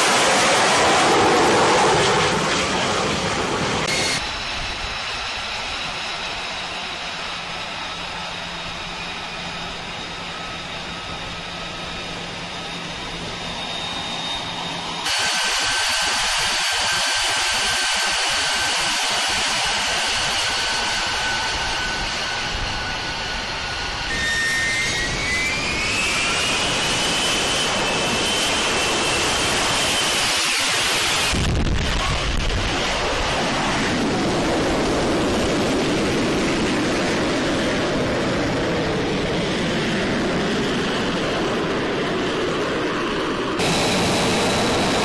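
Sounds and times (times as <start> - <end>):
jet engine roar with whine: 0.0 - 45.0.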